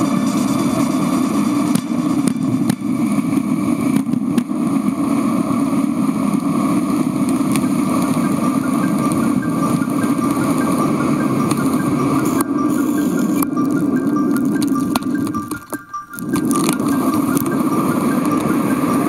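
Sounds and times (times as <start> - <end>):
highway traffic noise: 0.0 - 19.0.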